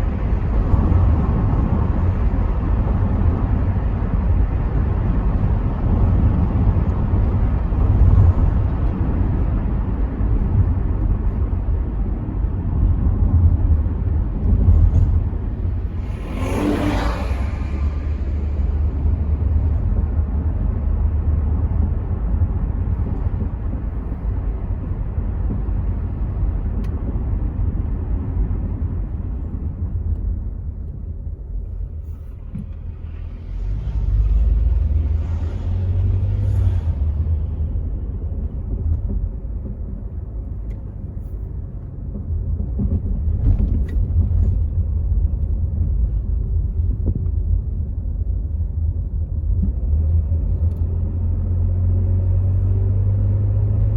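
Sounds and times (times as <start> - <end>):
car engine and road rumble: 0.0 - 53.9
wind noise from open windows: 0.0 - 53.9.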